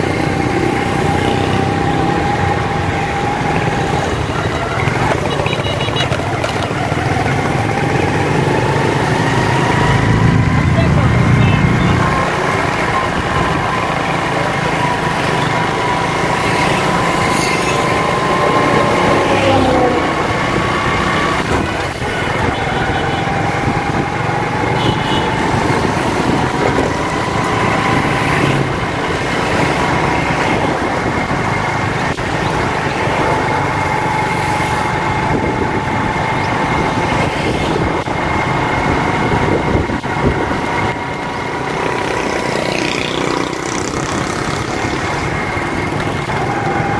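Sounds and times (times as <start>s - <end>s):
vehicle engines: 0.0s - 46.9s.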